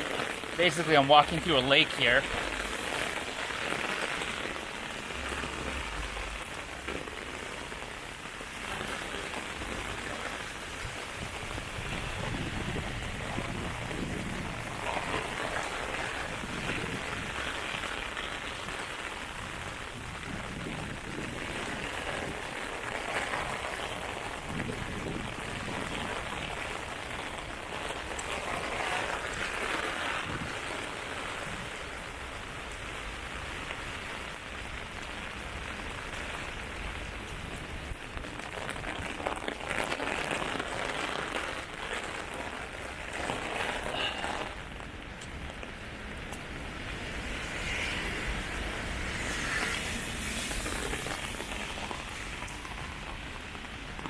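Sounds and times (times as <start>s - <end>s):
rain drumming on an umbrella: 0.0s - 54.0s
rain splashing on pavement: 0.0s - 54.0s.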